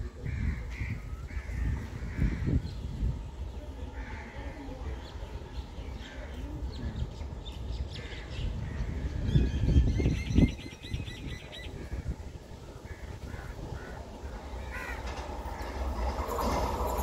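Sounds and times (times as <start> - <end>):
steady low rumble: 0.0 - 17.0
birds calling: 0.1 - 16.9.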